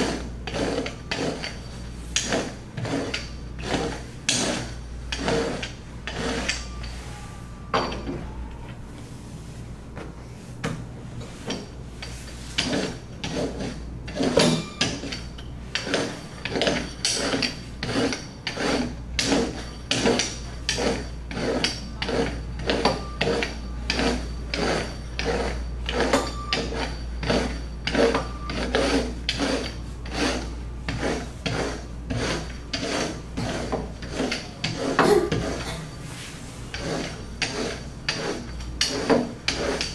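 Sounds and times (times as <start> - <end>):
rolling pin rubbing over dough: 0.0 - 7.6, 11.2 - 39.9.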